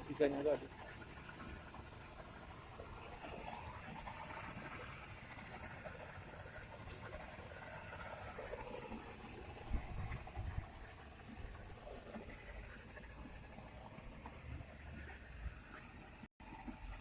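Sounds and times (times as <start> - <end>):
machine hissing and bubbling: 0.0 - 17.0.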